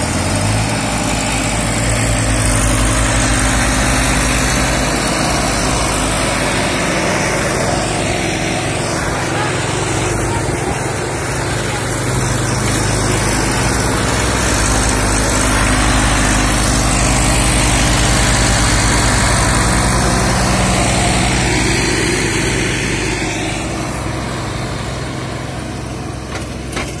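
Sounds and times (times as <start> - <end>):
tractor diesel engines under load: 0.0 - 27.0.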